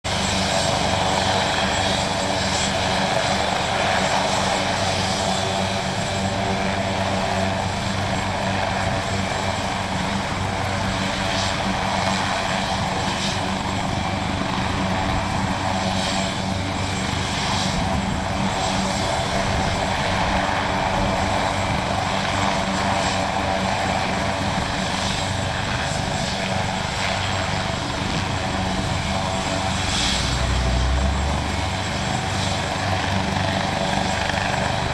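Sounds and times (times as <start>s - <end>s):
helicopter rotor and engine noise: 0.0s - 34.9s
helicopter turbine whine: 0.0s - 34.9s.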